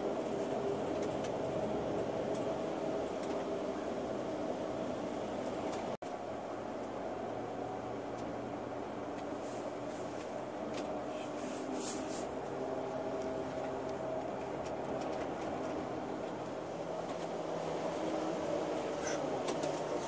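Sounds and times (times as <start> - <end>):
coach engine and road noise: 0.0 - 20.0.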